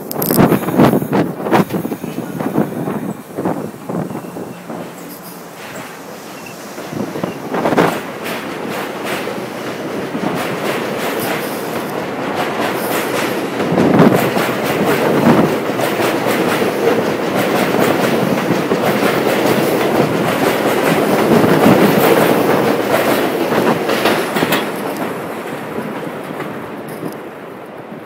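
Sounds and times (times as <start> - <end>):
train wheels clacking over rail joints: 0.0 - 27.8.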